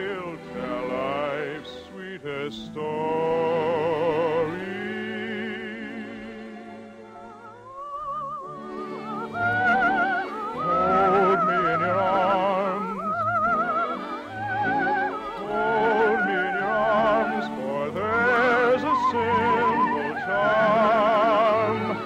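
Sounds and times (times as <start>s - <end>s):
operetta singing with vibrato: 0.0s - 22.0s.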